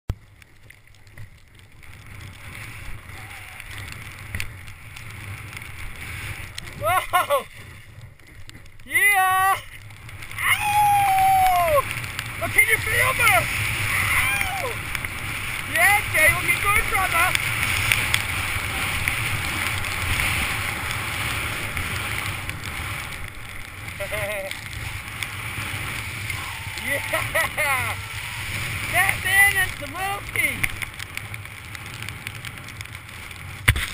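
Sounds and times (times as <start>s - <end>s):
wind rumbling on microphone: 0.1s - 33.9s
skis hissing through powder snow: 0.6s - 33.9s.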